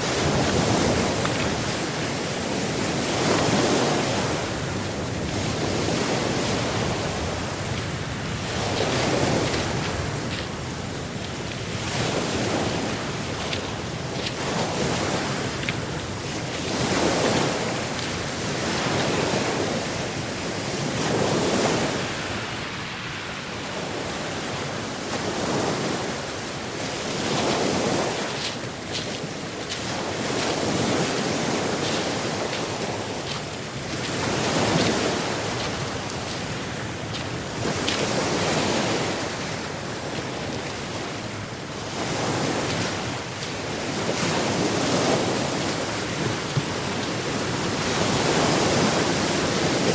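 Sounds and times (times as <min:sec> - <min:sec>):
ocean surf washing ashore: 0:00.0 - 0:49.9.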